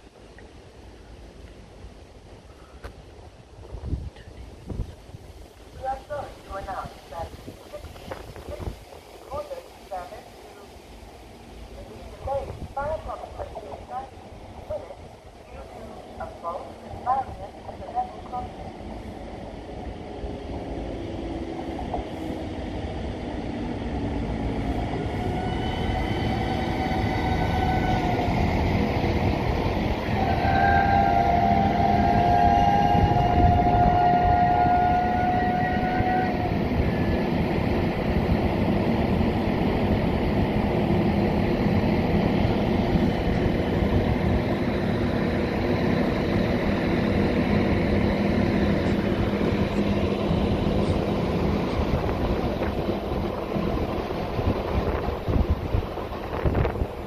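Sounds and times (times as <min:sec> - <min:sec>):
train wheels rumbling: 0:11.0 - 0:57.0.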